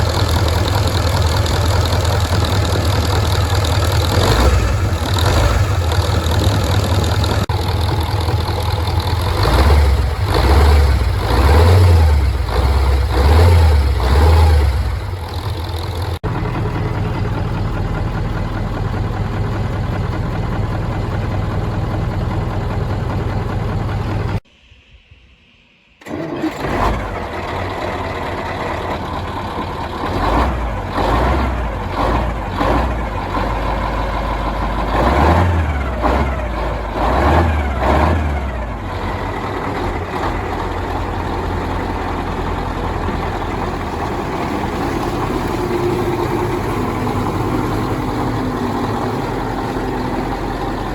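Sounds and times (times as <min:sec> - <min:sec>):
truck diesel engine revving: 0:00.0 - 0:24.4, 0:26.0 - 0:50.9.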